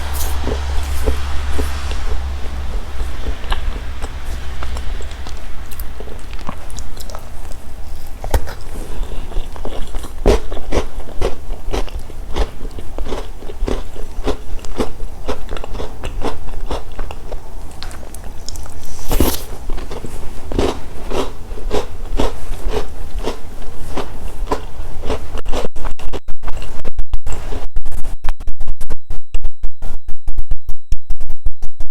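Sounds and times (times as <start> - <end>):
chewing crunchy snacks: 0.0 - 25.8
low microphone hum: 0.0 - 31.0.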